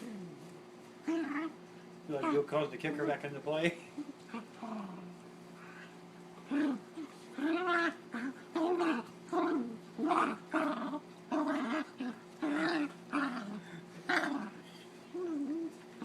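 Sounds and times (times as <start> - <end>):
dog play-growling: 0.0 - 3.3, 4.0 - 16.0.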